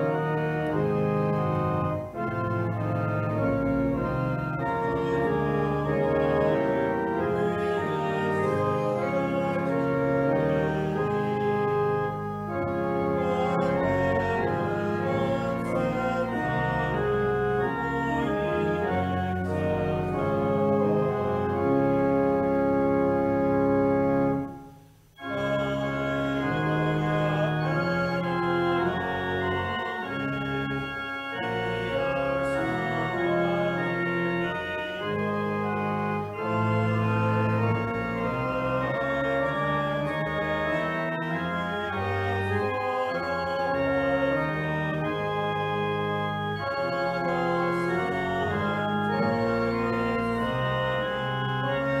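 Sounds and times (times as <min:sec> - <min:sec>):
church organ chords: 0:00.0 - 0:52.0.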